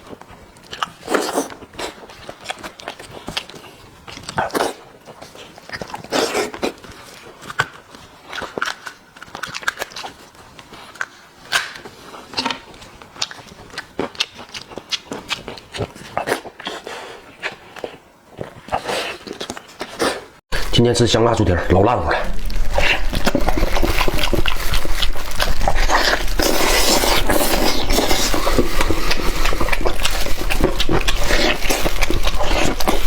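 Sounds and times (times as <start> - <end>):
chewing and lip smacks: 0.0 - 20.3, 22.2 - 33.0.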